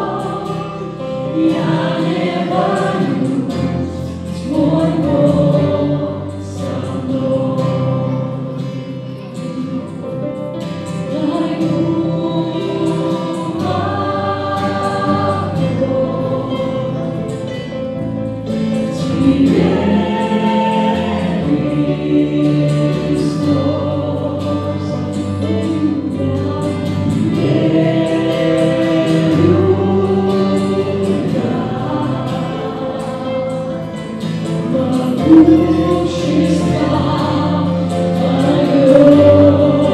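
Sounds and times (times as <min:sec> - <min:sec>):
voices singing together: 0:00.0 - 0:39.9
worship band playing: 0:00.0 - 0:39.9.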